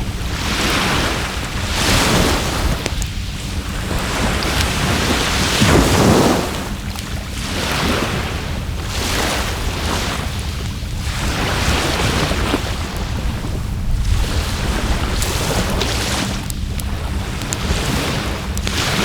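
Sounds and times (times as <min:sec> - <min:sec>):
sea waves washing onto shore: 0:00.0 - 0:19.0
wind rumbling on microphone: 0:00.0 - 0:19.0.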